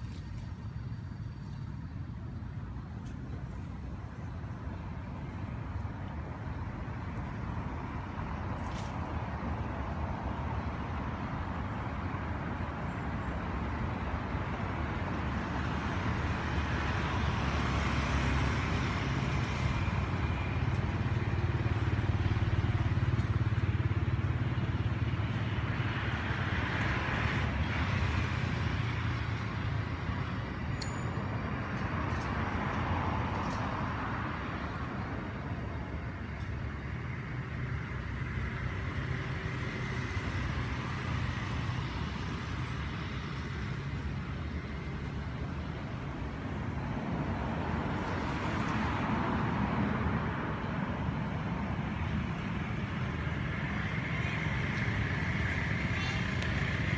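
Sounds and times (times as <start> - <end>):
distant traffic rumble: 0.0 - 56.9.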